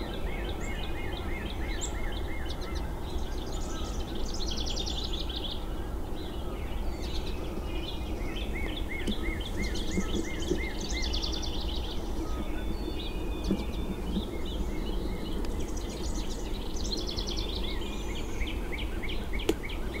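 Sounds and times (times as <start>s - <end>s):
low background noise: 0.0s - 20.0s
songbirds chirping and singing: 0.0s - 20.0s.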